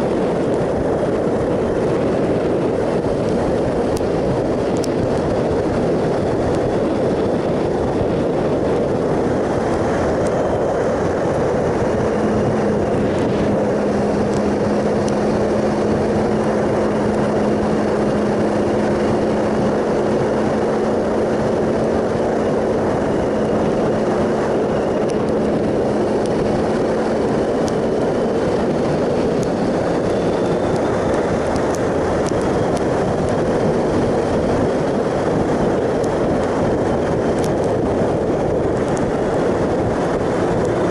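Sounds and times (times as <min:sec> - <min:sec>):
motorcycle engine cruising: 0:00.0 - 0:40.9
wind noise rushing: 0:00.0 - 0:40.9.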